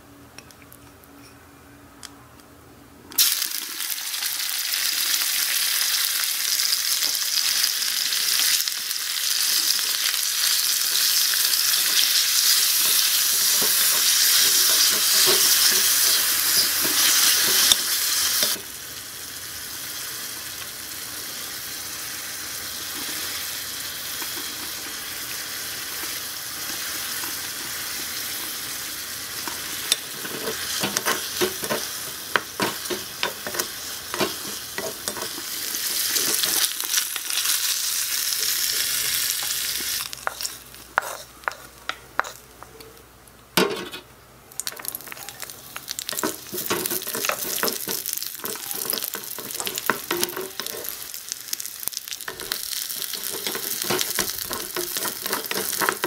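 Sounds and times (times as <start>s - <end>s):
food sizzling in a wok: 3.2s - 42.4s, 44.6s - 56.0s.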